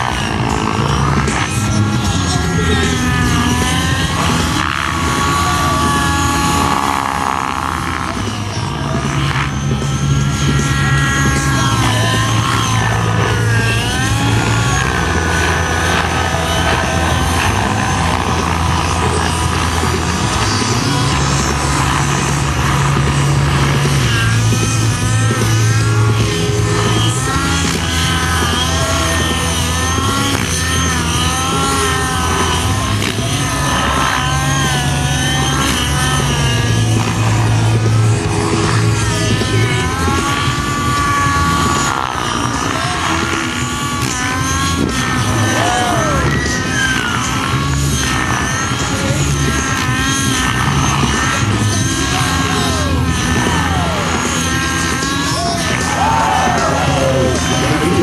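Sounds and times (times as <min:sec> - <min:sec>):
model helicopter motor whine: 0:00.0 - 0:58.0
music with held bass notes: 0:00.0 - 0:58.0.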